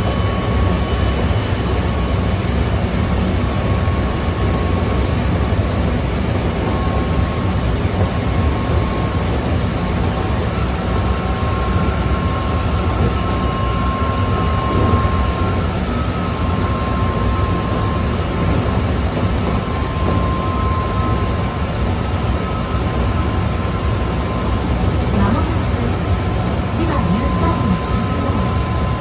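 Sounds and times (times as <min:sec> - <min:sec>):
traction motor whine: 0:00.0 - 0:29.0
train wheels rumbling on rail: 0:00.0 - 0:29.0.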